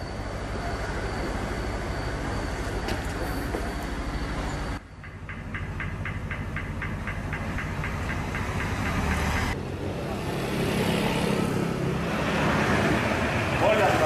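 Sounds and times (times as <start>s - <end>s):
hissy outdoor noise: 0.0s - 14.0s.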